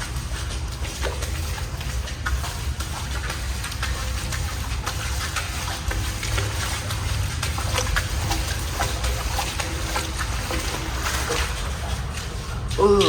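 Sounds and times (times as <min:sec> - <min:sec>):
footsteps splashing through water: 0:00.0 - 0:13.0.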